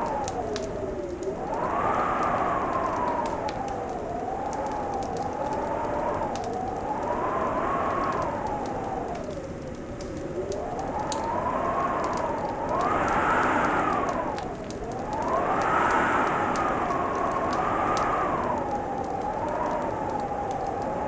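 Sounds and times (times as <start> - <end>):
wind howling: 0.0 - 21.0
wood fire crackling: 0.0 - 21.0.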